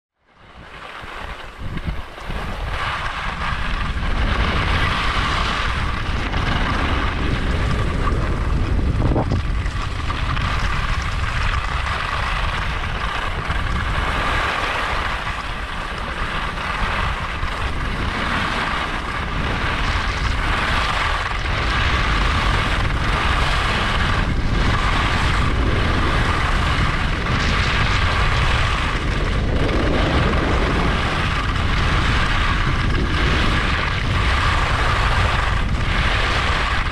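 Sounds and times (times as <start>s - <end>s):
wind rushing over microphone: 0.3s - 36.9s
skis scraping on snow: 0.5s - 36.9s.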